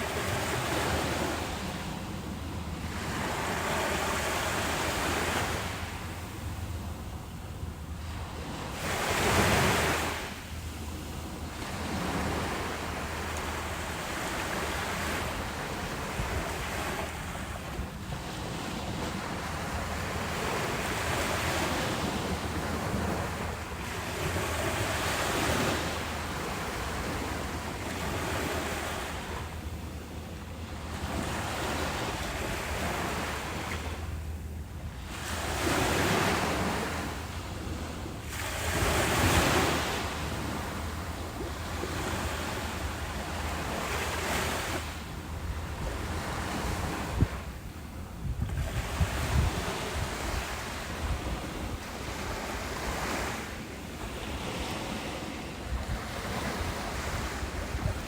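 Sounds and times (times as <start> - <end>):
low wind rumble on microphone: 0.0 - 58.0
ocean waves breaking on beach: 0.0 - 58.0.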